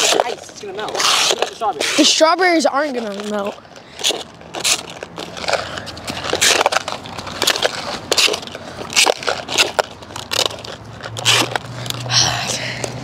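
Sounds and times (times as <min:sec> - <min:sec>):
plastic cup scraping on concrete: 0:00.0 - 0:12.2.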